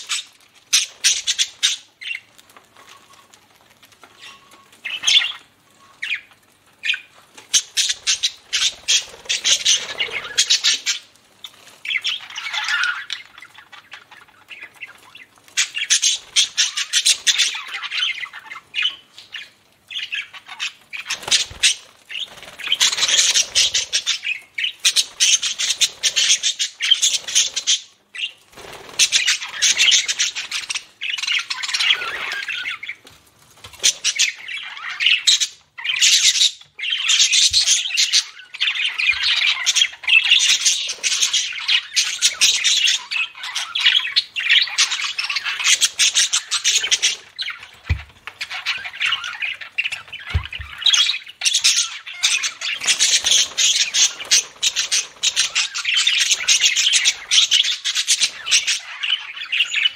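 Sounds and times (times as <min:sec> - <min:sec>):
budgerigars chattering and warbling: 0:00.0 - 0:03.2, 0:04.1 - 0:33.0, 0:33.7 - 0:59.9.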